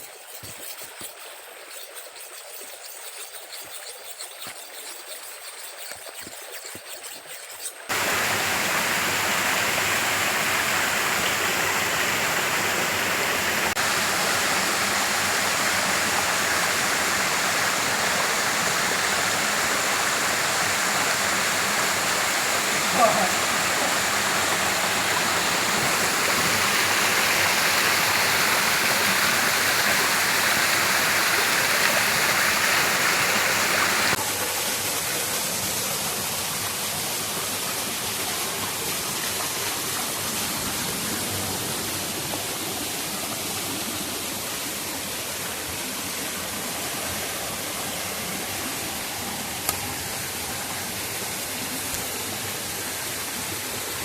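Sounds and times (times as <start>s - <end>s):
water rushing over rocks: 7.8s - 53.8s.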